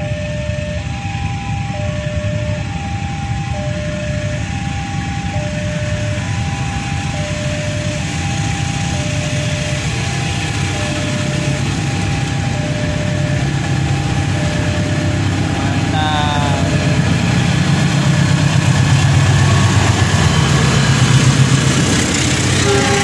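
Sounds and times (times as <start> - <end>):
diesel locomotive rumble: 0.0 - 23.0
two-tone railway warning alarm: 0.0 - 23.0.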